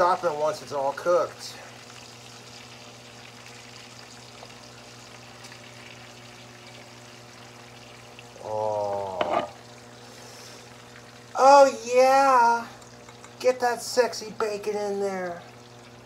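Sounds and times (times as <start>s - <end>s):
bacon sizzling in a pan: 0.0s - 16.0s.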